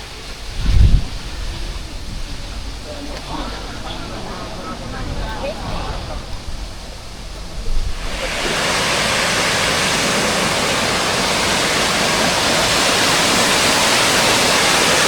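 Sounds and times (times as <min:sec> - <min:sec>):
waterfall roaring: 0:02.6 - 0:15.0.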